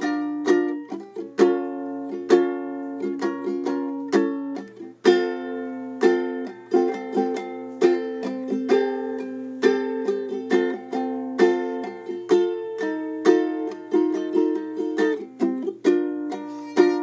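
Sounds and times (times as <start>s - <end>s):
plucked string chords: 0.0s - 17.0s.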